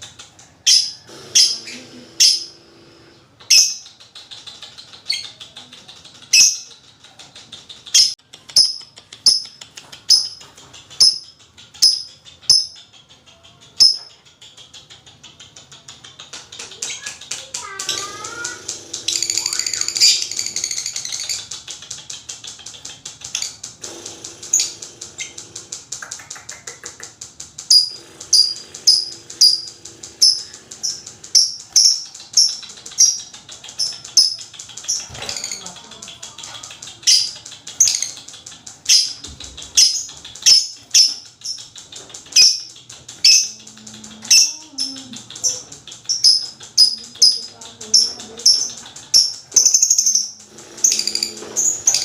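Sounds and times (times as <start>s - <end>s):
fine ticking bird chatter: 0.0s - 52.0s
loud high bird chattering: 0.5s - 52.0s.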